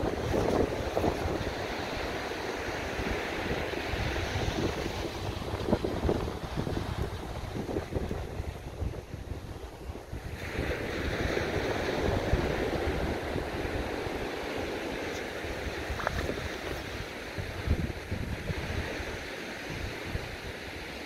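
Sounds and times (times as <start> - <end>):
wind buffeting microphone: 0.0 - 20.9
small waves on sandy shore: 0.0 - 21.0.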